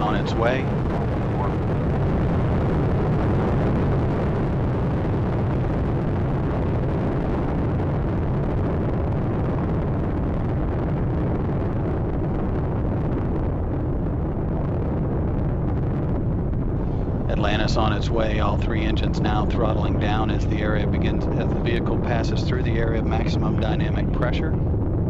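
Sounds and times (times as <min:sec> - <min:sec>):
rocket engines rumbling: 0:00.0 - 0:25.0.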